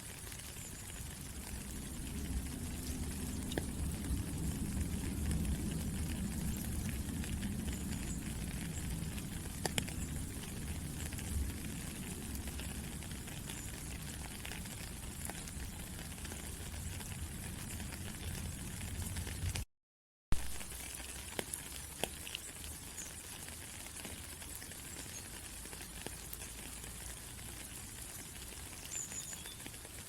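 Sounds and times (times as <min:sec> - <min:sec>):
raindrop ticking: 0:00.0 - 0:19.6, 0:20.4 - 0:30.0
rain falling: 0:00.0 - 0:19.7, 0:20.4 - 0:30.0.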